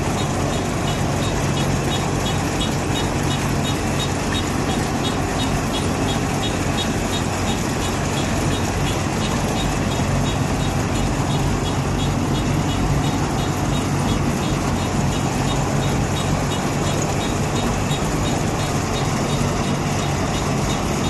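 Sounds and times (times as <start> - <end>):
combine harvester running: 0.0 - 21.0
faint regular ticking: 0.0 - 21.0.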